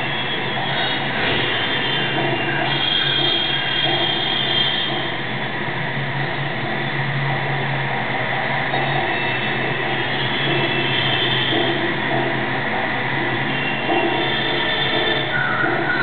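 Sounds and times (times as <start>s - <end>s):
steady droning noise: 0.0s - 16.0s.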